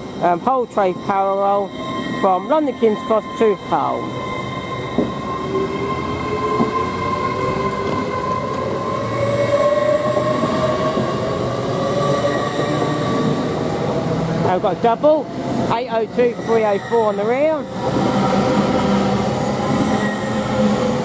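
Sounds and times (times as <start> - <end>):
train pulling away with whine: 0.0 - 21.0.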